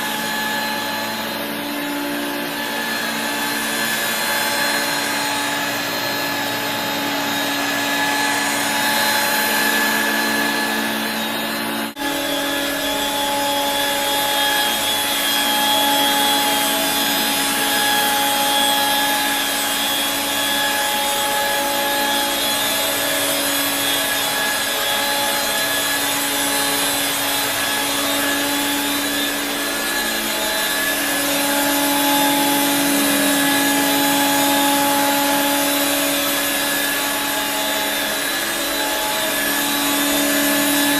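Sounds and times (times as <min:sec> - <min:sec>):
stick vacuum running: 0:00.0 - 0:40.9.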